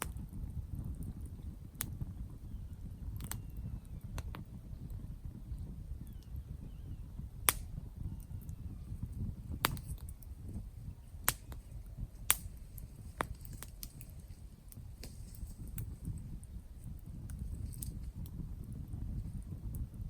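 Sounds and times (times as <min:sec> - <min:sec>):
campfire crackling: 0:00.0 - 0:20.0
fire popping: 0:00.0 - 0:20.0.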